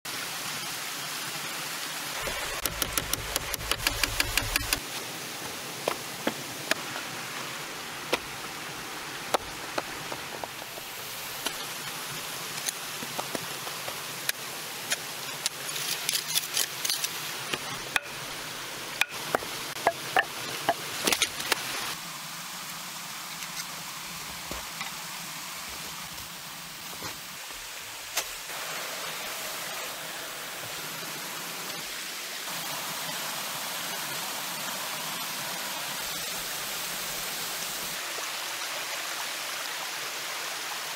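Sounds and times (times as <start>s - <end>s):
steady hiss: 0.2s - 40.9s.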